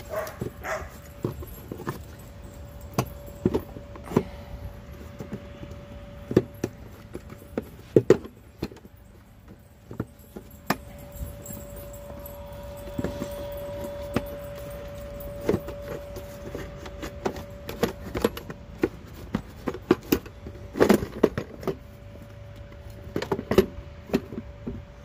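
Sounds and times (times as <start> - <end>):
hand tools clinking on metal: 0.0 - 21.4
faint hum: 0.0 - 25.0.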